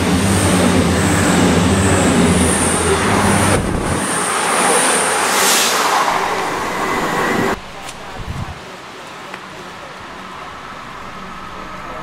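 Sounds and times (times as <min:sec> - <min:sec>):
train engine hum: 0:00.0 - 0:12.0
wheels rushing on rail: 0:00.0 - 0:12.0.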